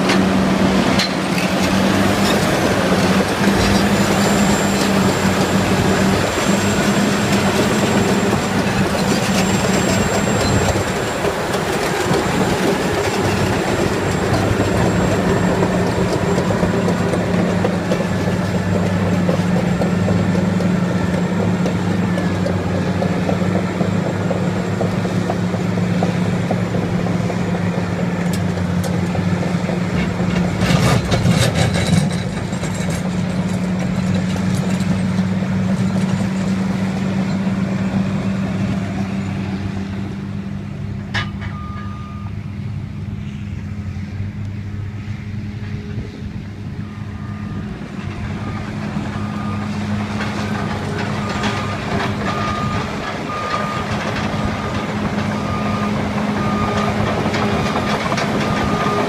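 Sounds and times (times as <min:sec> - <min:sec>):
steel tracks clattering: 0:00.0 - 0:42.4, 0:47.5 - 0:59.0
diesel engine running under load: 0:00.0 - 0:59.0.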